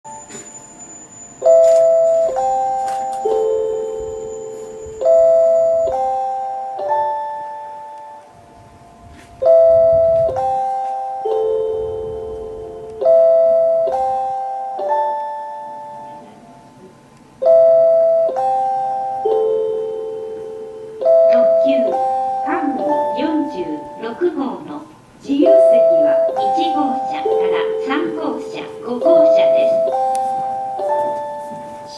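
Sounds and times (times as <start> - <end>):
soft bell-like guide chime: 0.1 - 16.8, 17.4 - 24.7, 25.6 - 31.9.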